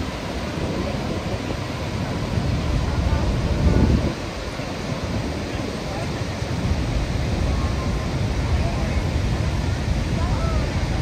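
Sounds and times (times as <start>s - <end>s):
waterfall roaring: 0.0s - 11.0s
wind on microphone: 0.0s - 11.0s.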